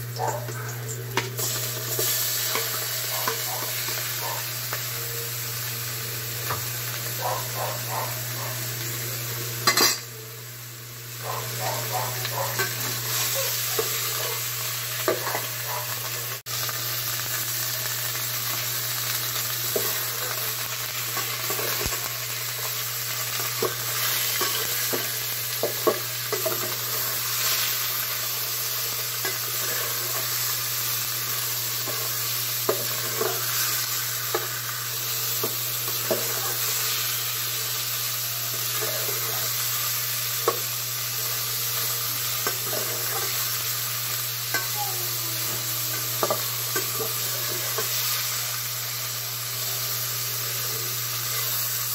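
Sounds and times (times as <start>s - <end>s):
meat sizzling in a pot: 0.0s - 51.9s.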